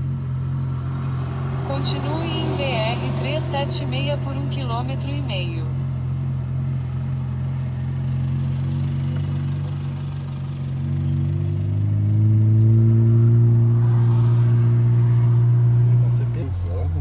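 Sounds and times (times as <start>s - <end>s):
truck diesel engine revving: 0.0s - 17.0s.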